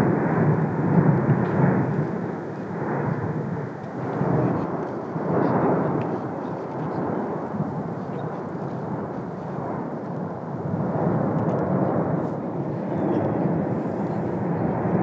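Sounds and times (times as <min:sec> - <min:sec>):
volcano rumbling: 0:00.0 - 0:15.0.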